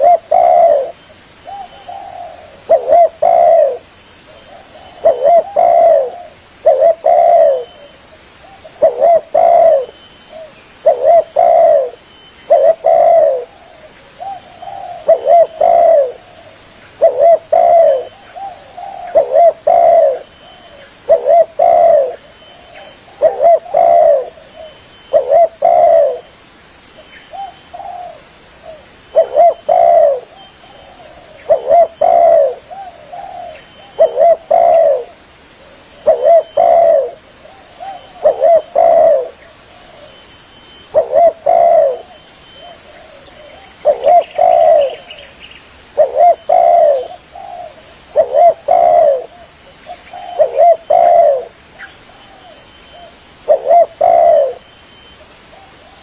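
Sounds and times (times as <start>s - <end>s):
dove cooing: 0.0s - 26.4s, 27.3s - 56.0s.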